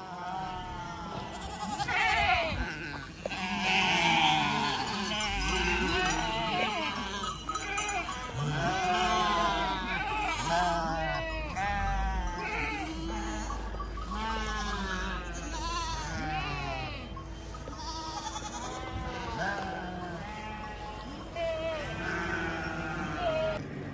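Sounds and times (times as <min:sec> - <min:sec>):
goats bleating: 0:00.0 - 0:23.6.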